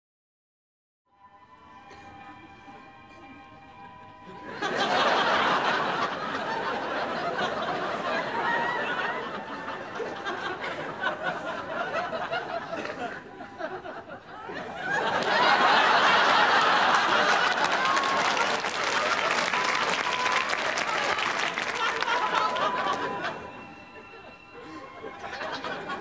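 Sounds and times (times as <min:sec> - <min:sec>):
audience laughing: 0:03.6 - 0:26.0.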